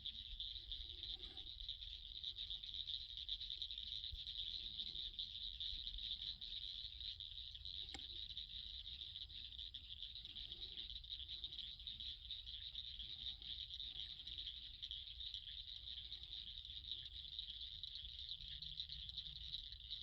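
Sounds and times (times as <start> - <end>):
faint low frog calls: 0.0 - 20.0
insects trilling: 0.0 - 20.0.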